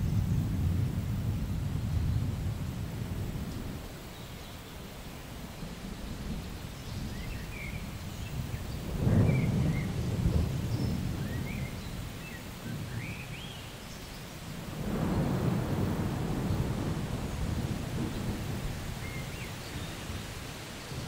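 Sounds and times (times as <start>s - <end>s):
distant thunder rumble: 0.0s - 4.1s, 5.6s - 13.4s, 14.6s - 21.0s.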